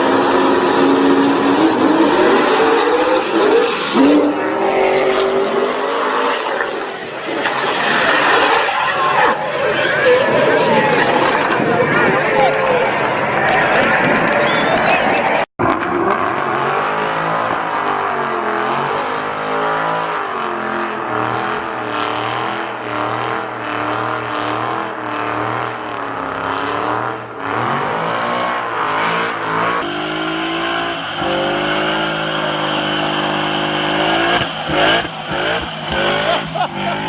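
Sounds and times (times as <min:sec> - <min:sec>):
car engine revving: 0:00.0 - 0:14.4, 0:15.6 - 0:37.0.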